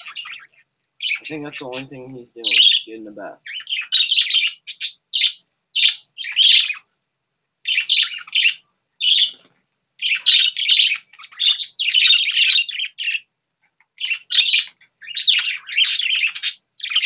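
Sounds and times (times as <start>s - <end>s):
budgerigars chattering and warbling: 0.0s - 6.9s, 7.6s - 9.4s, 10.0s - 17.0s.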